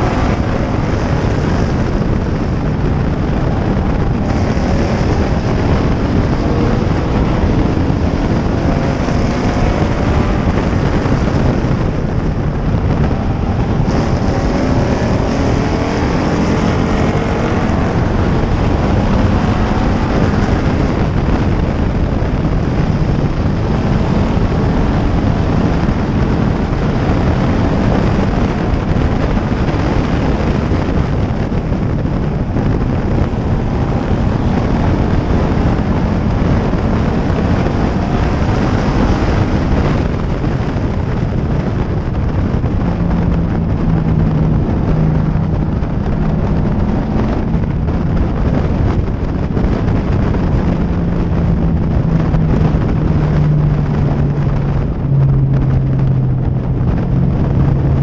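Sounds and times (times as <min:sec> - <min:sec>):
race car engine running hard: 0:00.0 - 0:58.0
wind noise on microphone: 0:00.0 - 0:58.0.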